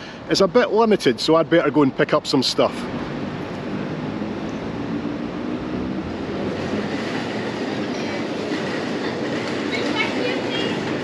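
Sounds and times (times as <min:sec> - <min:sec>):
train noise: 0:00.0 - 0:11.0.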